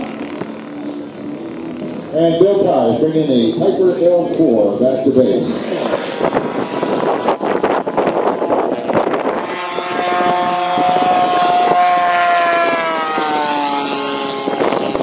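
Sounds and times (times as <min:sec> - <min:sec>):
model airplane engine flying past: 0:00.0 - 0:15.0.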